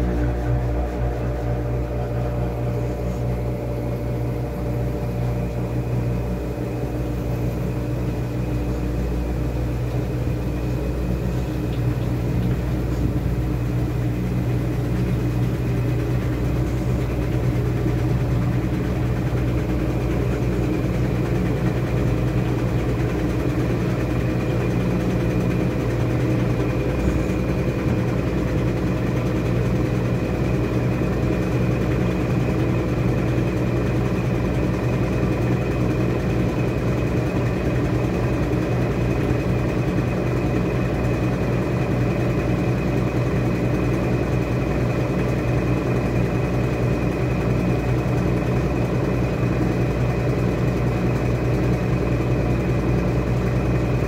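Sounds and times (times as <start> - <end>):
washing machine motor humming: 0.0 - 54.0.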